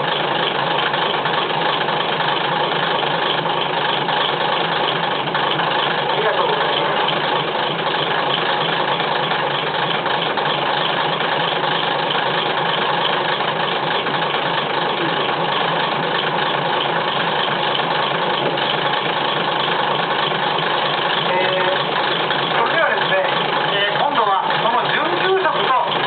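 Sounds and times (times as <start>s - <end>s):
diesel railcar engine idling: 0.0s - 26.0s.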